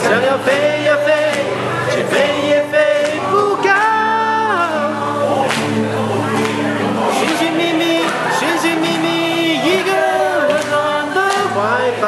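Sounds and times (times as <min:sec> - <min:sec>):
person singing: 0:00.0 - 0:12.0
strummed nylon-string guitar: 0:00.0 - 0:12.0.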